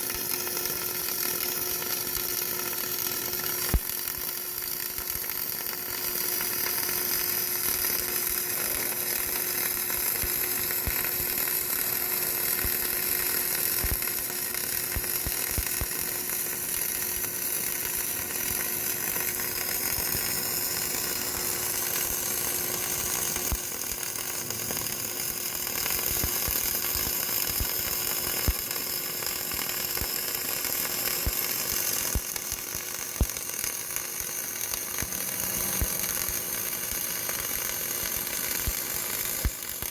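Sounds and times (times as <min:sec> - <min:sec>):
sharp welding pops: 0:00.0 - 0:39.9
welding arc crackling: 0:00.0 - 0:39.9.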